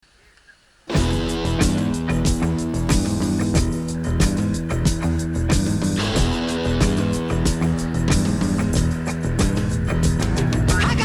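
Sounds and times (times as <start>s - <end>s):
guitar and drum backing music: 0.9s - 11.0s.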